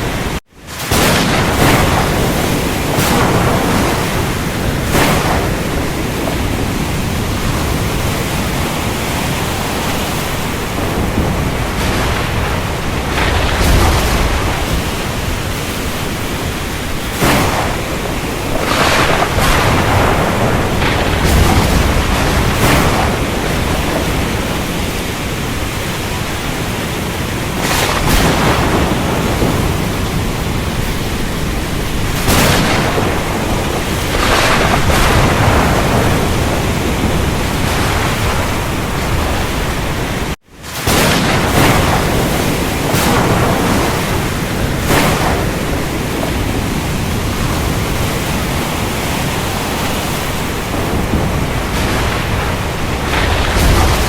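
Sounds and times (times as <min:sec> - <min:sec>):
dense rain: 0:00.0 - 0:54.0
thunder: 0:00.0 - 0:54.0.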